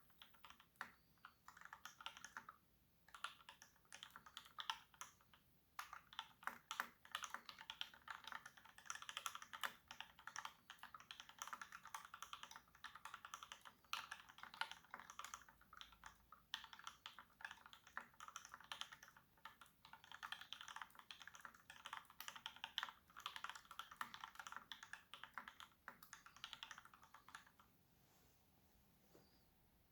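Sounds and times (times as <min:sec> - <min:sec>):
mechanical keyboard typing: 0:00.0 - 0:27.6.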